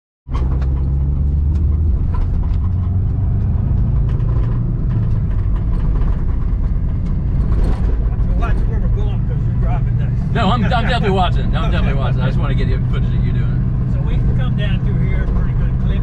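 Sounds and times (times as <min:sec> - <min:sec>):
road and wind noise: 0:00.3 - 0:16.0
vehicle engine running: 0:00.3 - 0:16.0.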